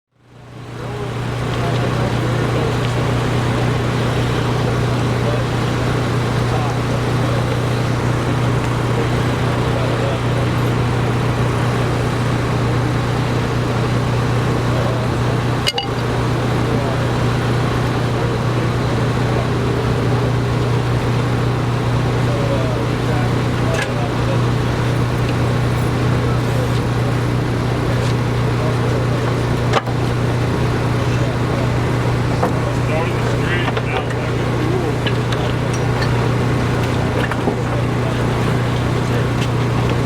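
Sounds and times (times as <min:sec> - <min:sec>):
engine drone: 0:00.1 - 0:40.0.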